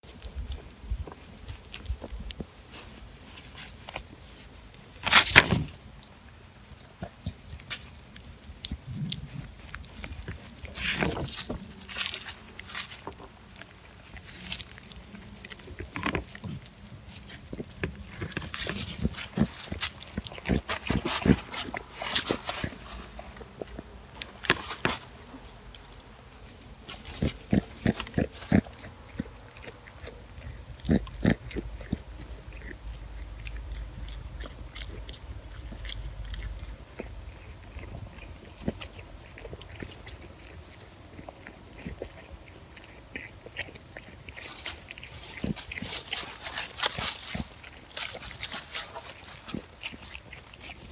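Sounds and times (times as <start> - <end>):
goat crunching and chewing: 0.0 - 50.9.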